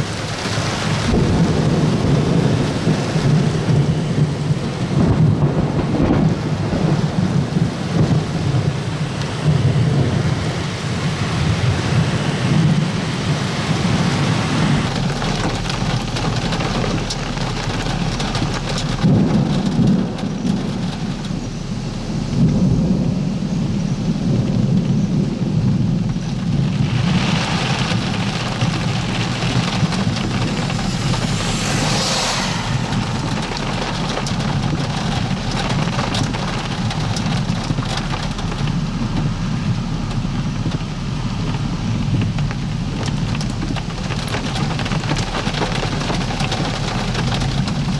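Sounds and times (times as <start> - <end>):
heavy rain: 0.0 - 47.9
low rumble: 0.0 - 47.9.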